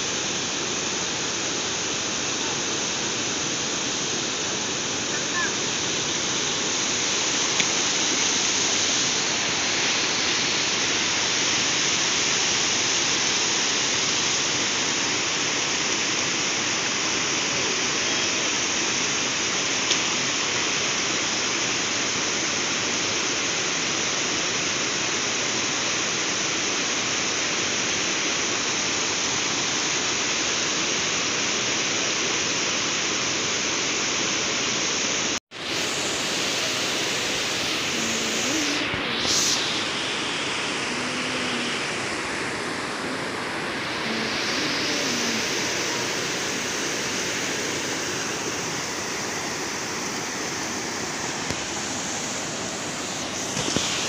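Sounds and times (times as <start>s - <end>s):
water rushing over a weir: 0.0s - 31.0s, 35.2s - 54.0s.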